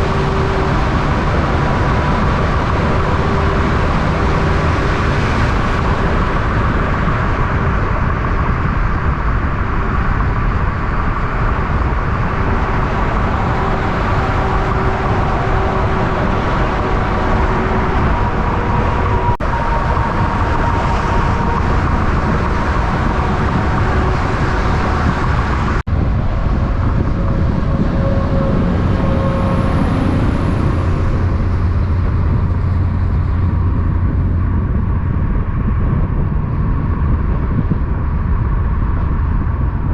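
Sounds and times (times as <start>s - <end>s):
diesel trucks driving past: 0.0s - 37.7s.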